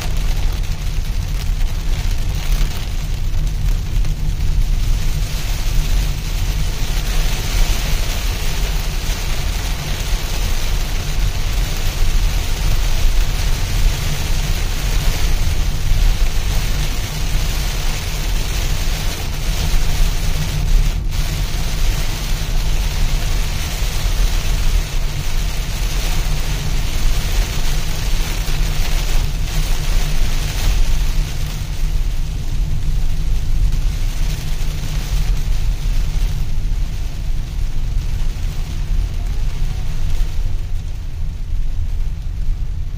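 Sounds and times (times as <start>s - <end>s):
heavy rain on a car: 0.0s - 42.9s
road and engine rumble: 0.0s - 42.9s.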